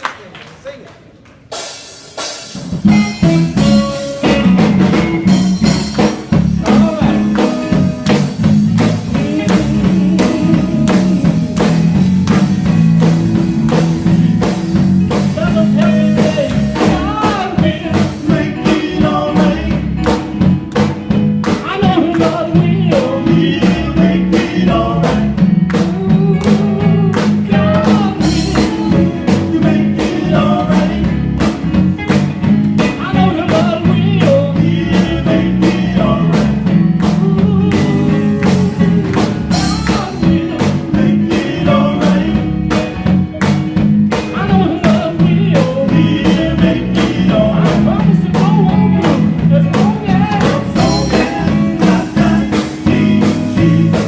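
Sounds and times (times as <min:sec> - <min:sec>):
gospel band playing: 0:00.0 - 0:54.0
voices singing: 0:02.9 - 0:20.9, 0:21.5 - 0:31.7, 0:32.8 - 0:43.1, 0:44.1 - 0:54.0.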